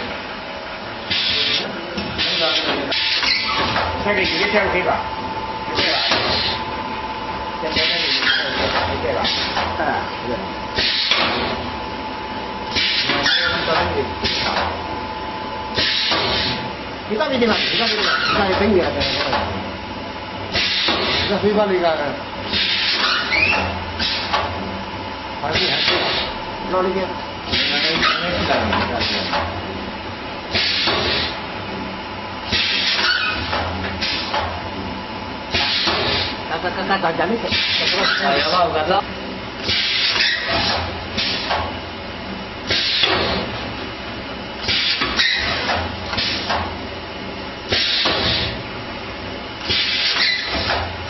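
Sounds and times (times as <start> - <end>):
machine hum: 0.0 - 51.0.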